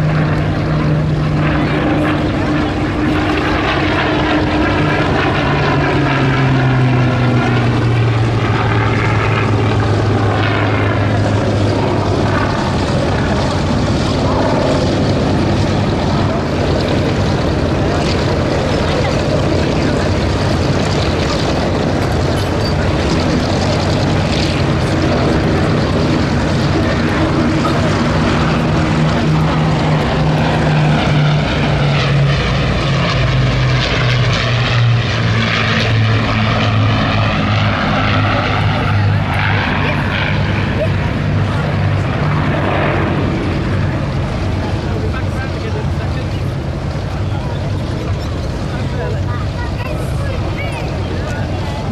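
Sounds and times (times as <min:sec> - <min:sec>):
propeller aircraft engine drone: 0:00.0 - 0:51.9.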